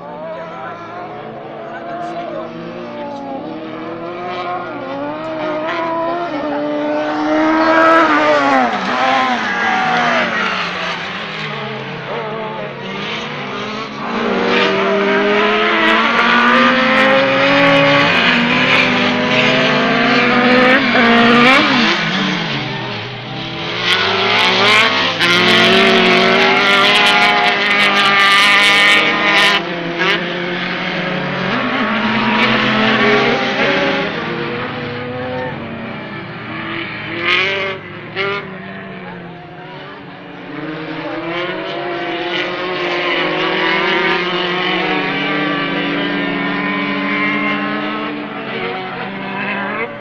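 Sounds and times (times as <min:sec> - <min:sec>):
buggy engines revving: 0:00.0 - 0:50.0.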